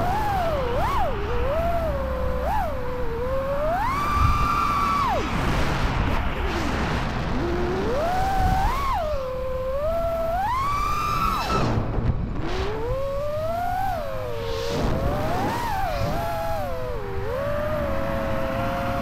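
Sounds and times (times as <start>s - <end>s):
drone motors whining: 0.0s - 19.0s
rushing wind: 0.0s - 19.0s.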